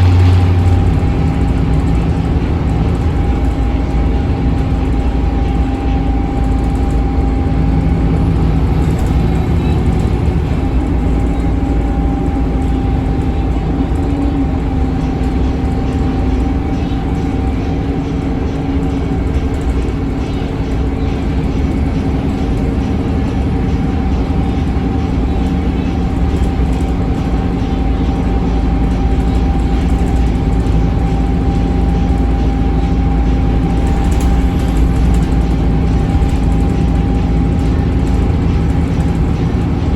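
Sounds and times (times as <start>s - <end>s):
bus engine drone: 0.0s - 39.9s
transmission whine: 0.0s - 39.9s.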